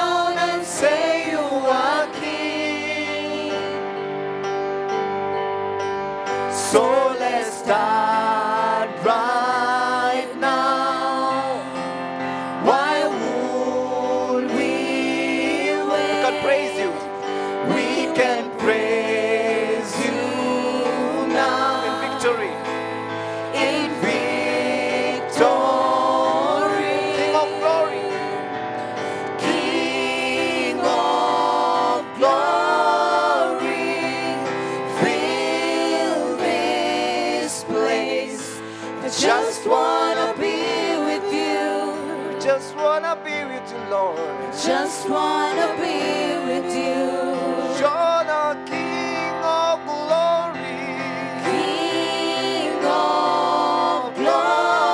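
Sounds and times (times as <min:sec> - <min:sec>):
voices singing gospel song: 0:00.0 - 0:04.2, 0:06.4 - 0:54.9
instrumental accompaniment: 0:00.0 - 0:54.9.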